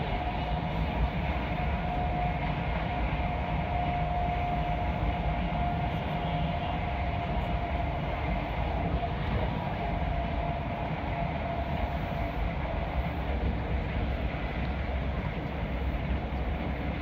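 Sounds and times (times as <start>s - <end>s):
steady whine: 0.0s - 17.0s
train rumble and rushing: 0.0s - 17.0s.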